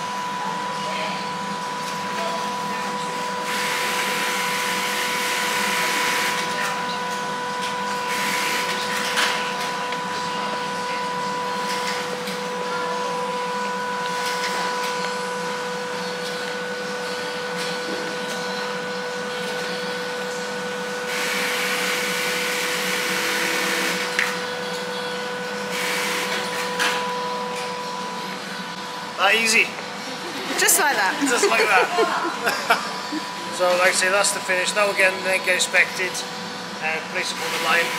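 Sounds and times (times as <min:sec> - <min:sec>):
factory machine hum and whine: 0:00.0 - 0:37.9.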